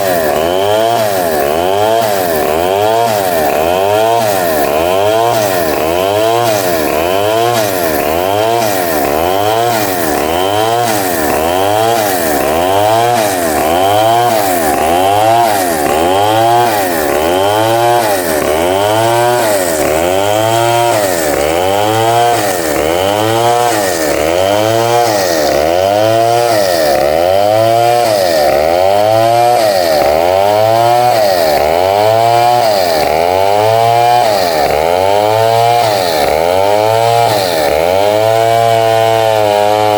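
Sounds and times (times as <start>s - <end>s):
bandsaw cutting timber: 0.0s - 39.9s.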